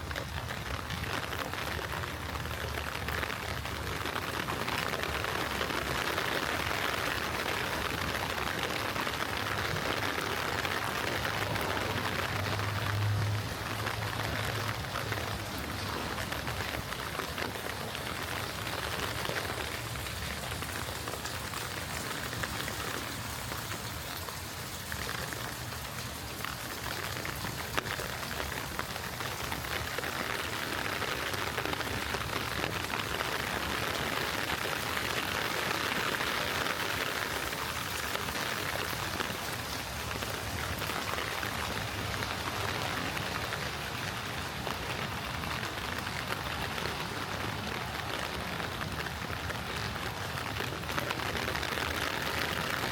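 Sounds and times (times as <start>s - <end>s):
gentle rain pattering: 0.0s - 52.9s.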